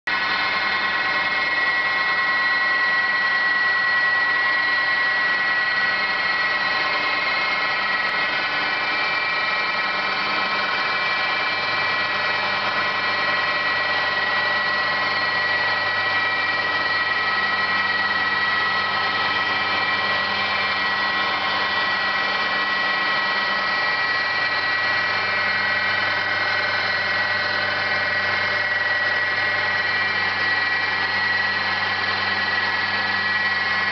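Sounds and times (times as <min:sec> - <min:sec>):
milling machine whining: 0:00.1 - 0:33.9.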